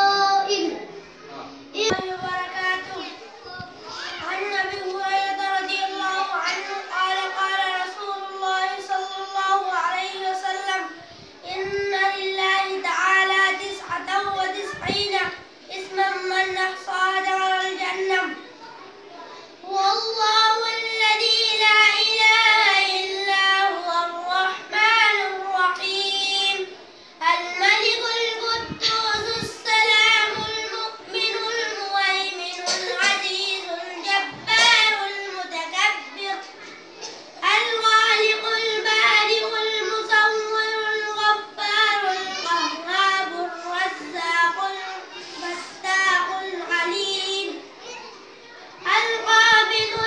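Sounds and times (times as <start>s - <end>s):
boy chanting: 0.0s - 0.9s, 1.7s - 18.8s, 19.6s - 36.6s, 37.4s - 48.1s, 48.8s - 50.0s.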